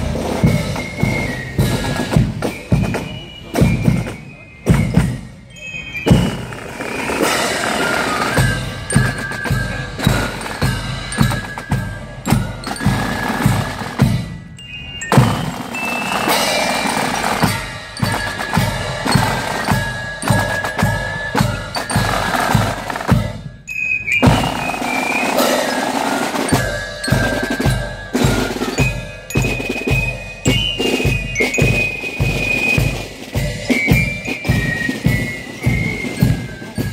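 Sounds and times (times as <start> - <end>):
snare and bass drums: 0.0 - 36.9
fifes playing high melody: 4.9 - 36.9.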